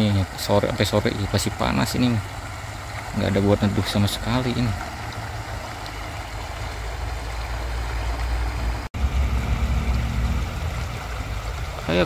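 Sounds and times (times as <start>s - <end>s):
low uneven rumble: 0.0s - 12.0s
rocky stream rushing: 0.0s - 12.0s.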